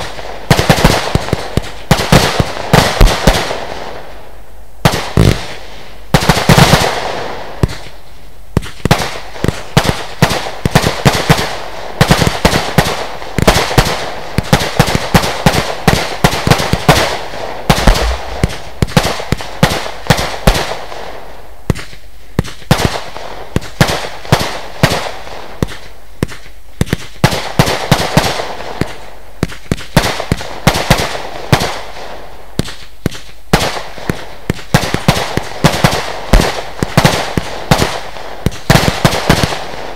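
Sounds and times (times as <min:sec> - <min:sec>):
firework shots and bangs: 0:00.0 - 0:04.1, 0:04.8 - 0:39.9.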